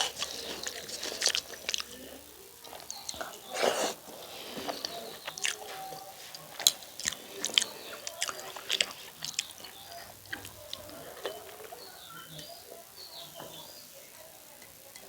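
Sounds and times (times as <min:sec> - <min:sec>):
chewing and biting food: 0:00.0 - 0:12.3.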